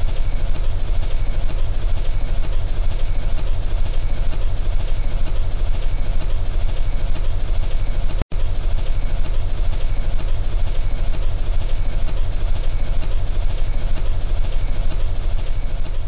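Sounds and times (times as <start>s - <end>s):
drone rotors whirring: 0.0s - 16.0s.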